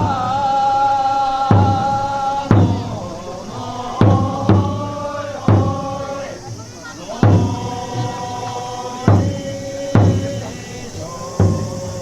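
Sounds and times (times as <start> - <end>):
deep taiko drum hits: 1.5 - 12.0.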